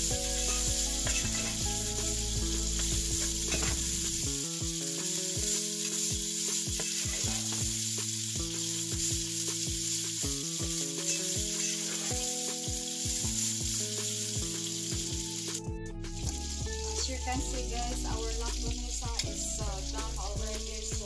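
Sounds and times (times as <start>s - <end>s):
background music with steady beat: 0.0s - 21.0s
rice sizzling in frying pan: 0.0s - 21.0s
sausages frying: 0.0s - 21.0s.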